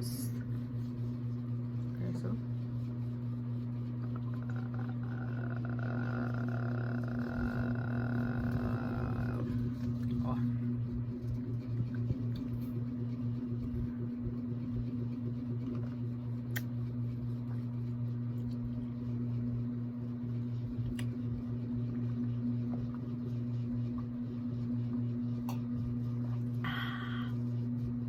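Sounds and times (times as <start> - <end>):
fan humming: 0.0 - 28.0.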